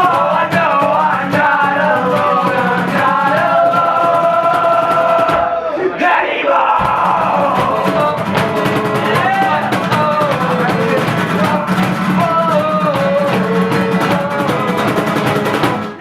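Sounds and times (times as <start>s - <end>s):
fast-strummed acoustic guitar: 0.0s - 5.5s, 6.8s - 16.0s.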